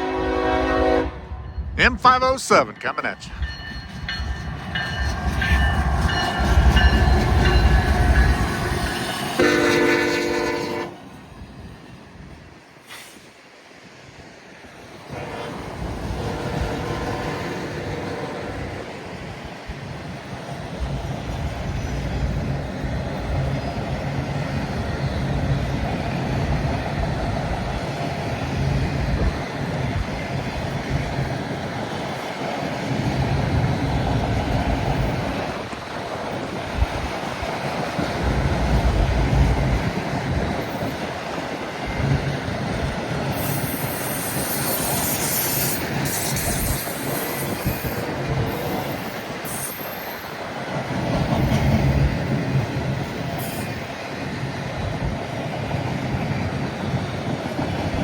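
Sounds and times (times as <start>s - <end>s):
freight train rumbling on rails: 0.0s - 58.0s
wind buffeting microphone: 3.3s - 9.5s, 15.5s - 49.5s, 50.4s - 58.0s.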